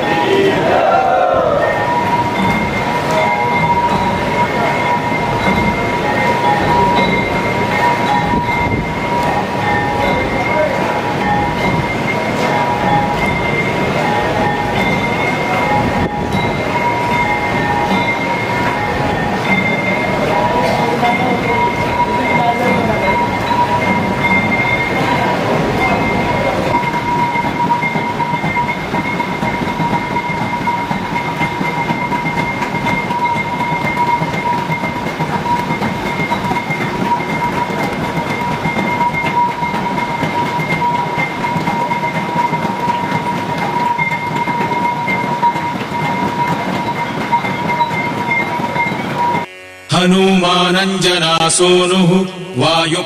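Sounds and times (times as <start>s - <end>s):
drums: 0.0s - 49.5s
temple bells clanging: 0.0s - 49.5s
steady high ringing tone: 0.0s - 53.0s.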